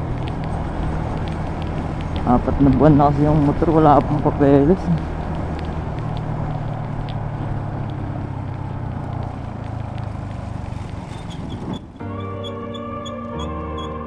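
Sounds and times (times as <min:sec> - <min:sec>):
motorcycle engine humming: 0:00.0 - 0:14.0
wind and road noise: 0:00.0 - 0:14.0.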